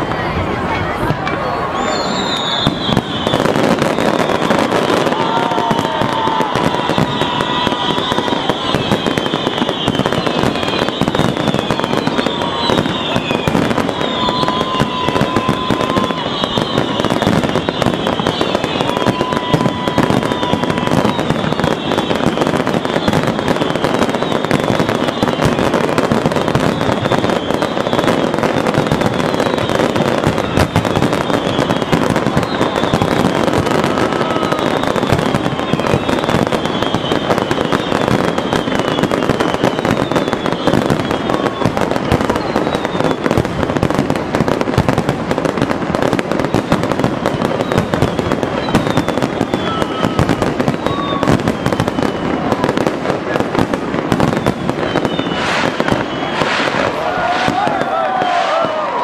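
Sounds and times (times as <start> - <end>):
fireworks crackling and banging: 0.0 - 59.0
short falling whistles: 1.7 - 4.6, 6.6 - 25.7, 26.3 - 43.3, 46.4 - 52.6, 54.2 - 59.0.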